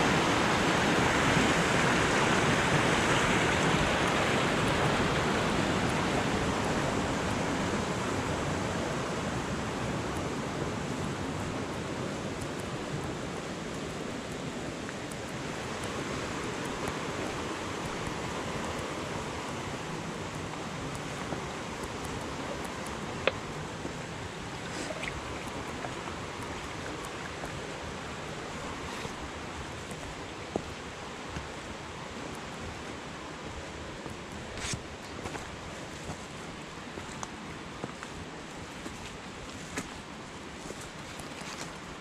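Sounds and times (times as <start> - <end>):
mountain creek water rushing: 0.0 - 42.0.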